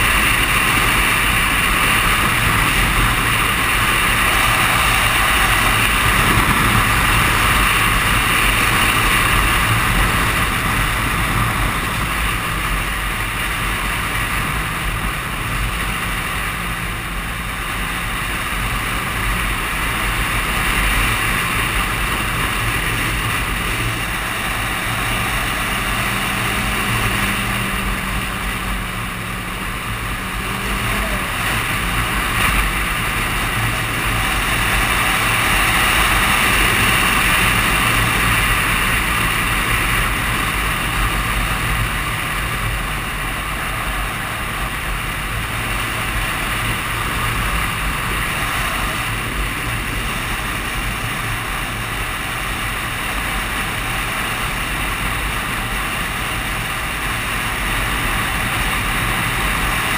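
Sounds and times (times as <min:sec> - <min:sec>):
motorcycle engine cruising: 0:00.0 - 0:59.9
wind buffeting helmet camera: 0:00.0 - 0:59.9.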